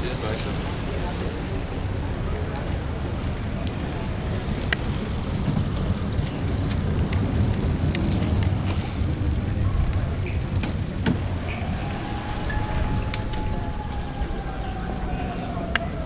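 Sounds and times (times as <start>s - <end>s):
low rumble of rolling wheels: 0.0s - 16.0s.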